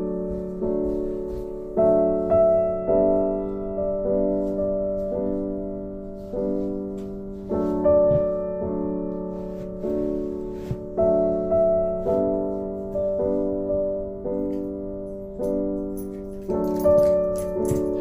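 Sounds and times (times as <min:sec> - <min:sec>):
slow soft piano chords: 0:00.0 - 0:18.0.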